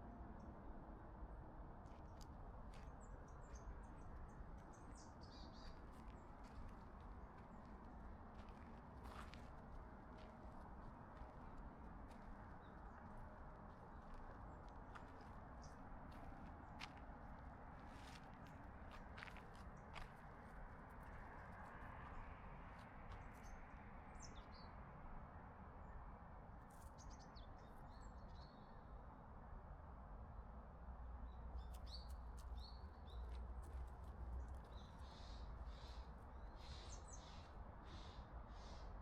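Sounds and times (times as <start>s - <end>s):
low steady background noise: 0.0s - 39.0s.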